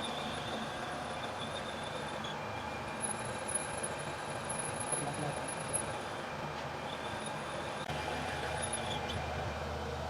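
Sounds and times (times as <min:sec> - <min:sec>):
lathe running: 0:00.0 - 0:10.0.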